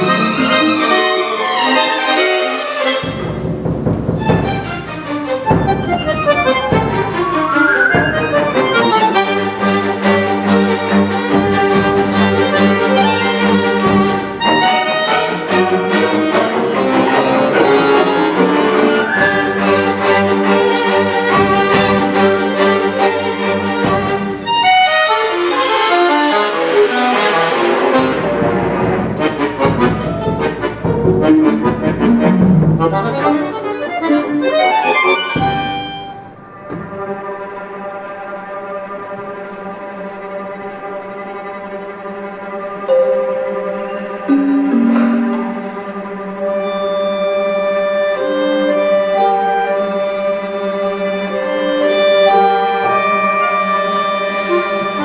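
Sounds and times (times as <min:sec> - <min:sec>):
chamber orchestra playing: 0:00.0 - 0:55.0.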